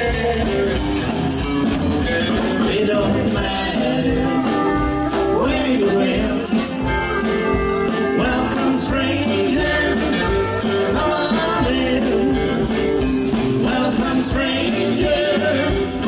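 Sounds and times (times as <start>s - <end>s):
acoustic and electric guitars: 0.0s - 16.0s
drum kit: 0.0s - 16.0s
hand shaker rhythm: 0.0s - 16.0s
keyboard: 0.0s - 16.0s.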